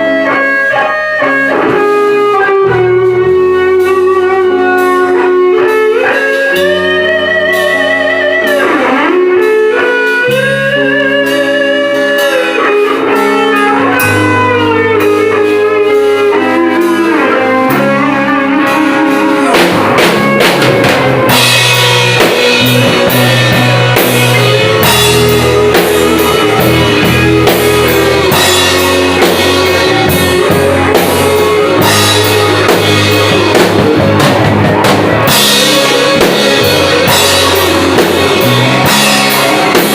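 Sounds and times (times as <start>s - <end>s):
bass line: 0.0s - 39.9s
drums: 0.0s - 39.9s
lead electric guitar melody: 0.0s - 39.9s.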